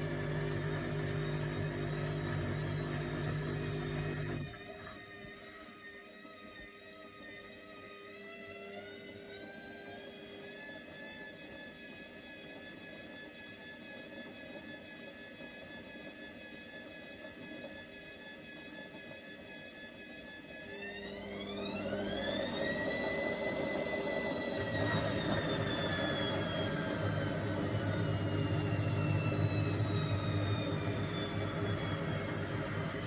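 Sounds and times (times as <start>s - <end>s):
washing machine motor whining: 0.0s - 33.0s.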